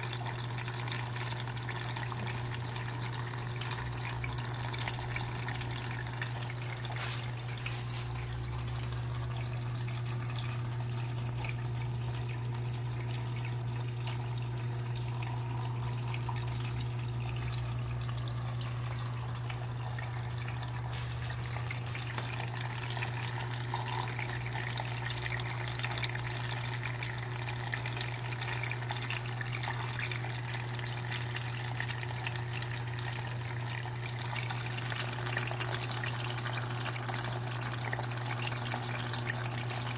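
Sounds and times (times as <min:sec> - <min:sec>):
water running into washing machine: 0:00.0 - 0:39.9.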